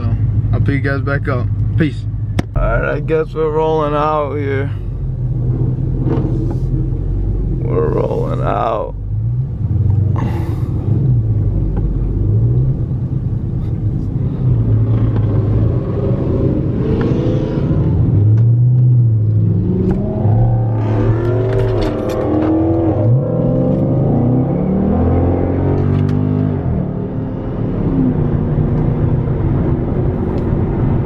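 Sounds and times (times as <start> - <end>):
car engine revving: 2.3 - 31.0.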